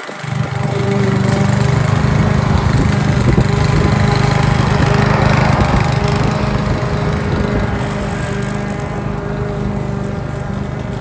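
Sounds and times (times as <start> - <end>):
lawn mower running: 0.0 - 11.0.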